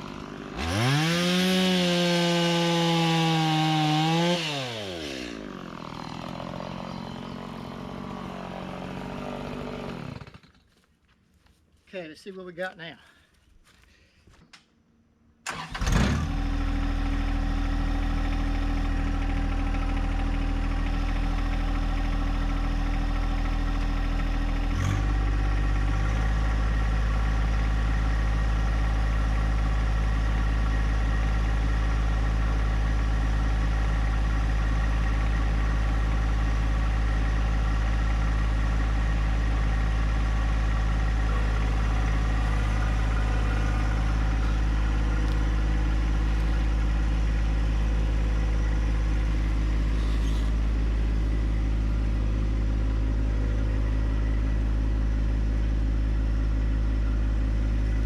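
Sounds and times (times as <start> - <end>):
tractor diesel engine running: 0.0 - 10.9, 15.4 - 58.0.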